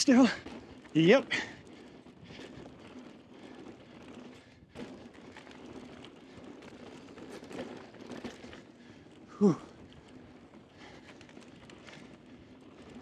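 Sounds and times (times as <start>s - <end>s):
bike rattling: 0.0s - 13.0s
bike tyres rolling on dirt: 0.0s - 13.0s.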